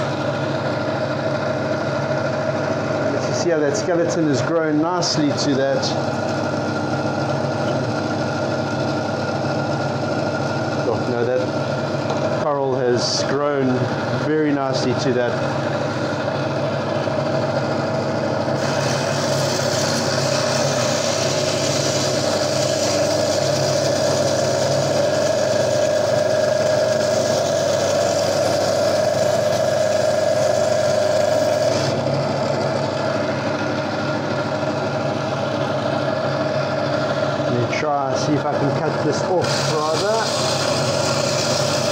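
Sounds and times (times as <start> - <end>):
bandsaw humming: 0.0 - 41.9.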